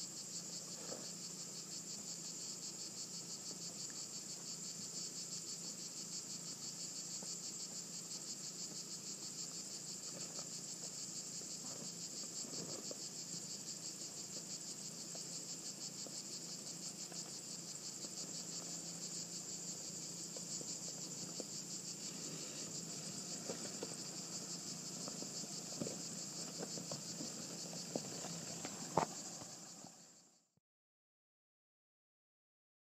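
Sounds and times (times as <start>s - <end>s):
cicadas chorus: 0.0s - 30.4s.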